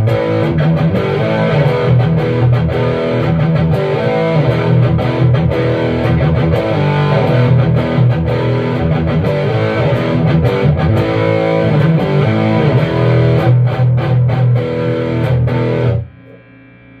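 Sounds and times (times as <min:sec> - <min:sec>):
distorted electric guitar strumming chords: 0:00.0 - 0:17.0.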